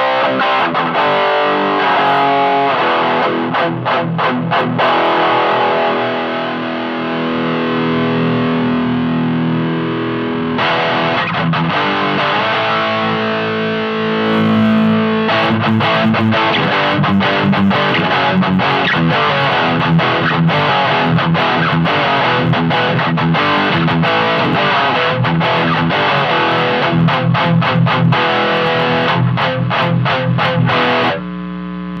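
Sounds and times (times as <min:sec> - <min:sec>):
distorted electric guitar: 0:00.0 - 0:32.0.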